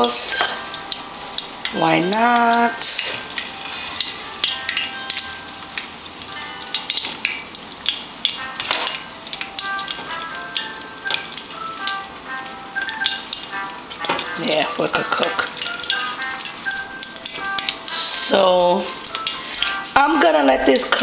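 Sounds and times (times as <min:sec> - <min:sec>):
faint music of held notes: 0:00.0 - 0:21.0
plantain frying in hot oil: 0:00.0 - 0:21.0.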